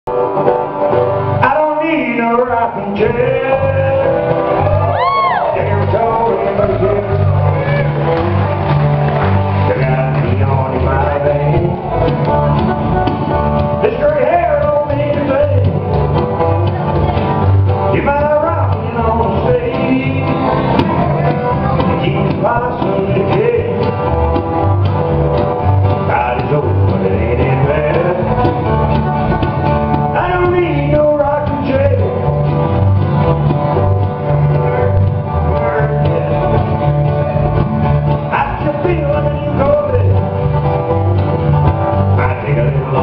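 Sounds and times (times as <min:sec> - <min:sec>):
bass line: 0:00.0 - 0:43.0
acoustic guitars strummed: 0:00.1 - 0:43.0.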